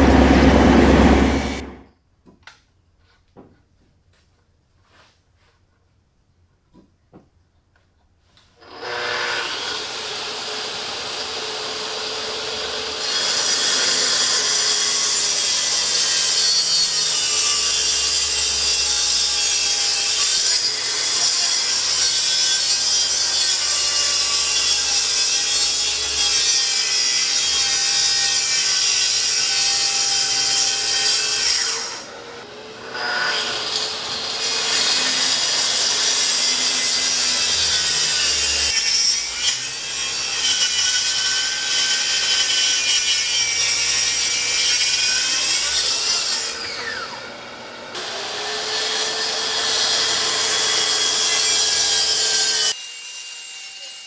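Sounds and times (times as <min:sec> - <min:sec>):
track saw cutting wood: 0:00.0 - 0:01.8, 0:08.6 - 0:54.0.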